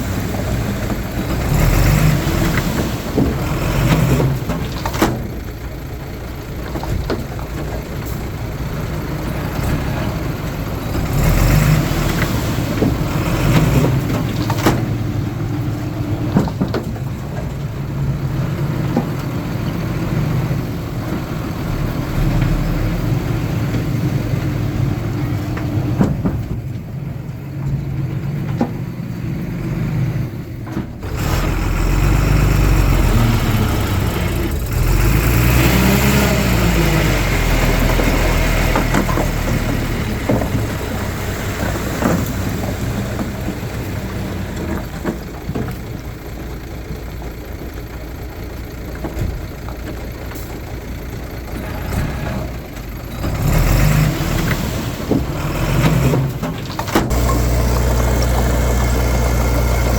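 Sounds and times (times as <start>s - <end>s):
diesel earthmoving machinery running: 0.0s - 59.9s.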